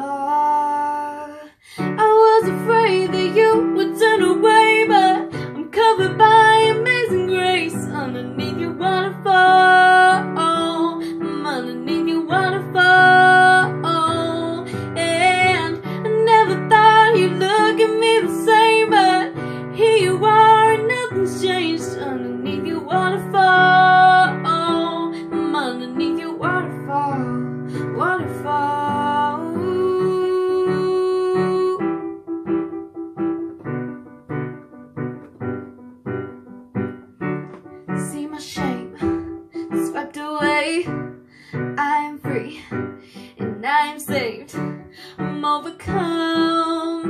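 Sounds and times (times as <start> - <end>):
girl singing a ballad: 0.0 - 32.7, 37.6 - 47.0
piano chords: 0.0 - 47.0.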